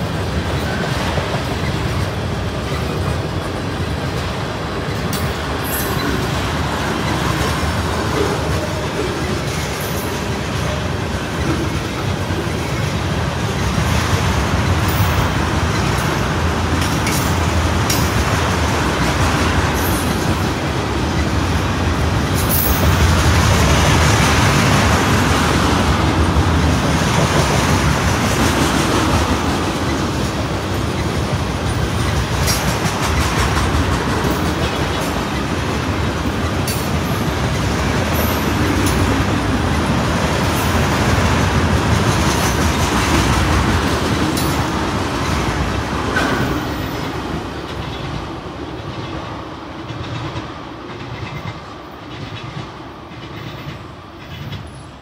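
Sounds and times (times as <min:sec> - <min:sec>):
wheels clacking over track joints: 0:00.0 - 0:48.3
freight train rolling past: 0:00.0 - 0:55.0.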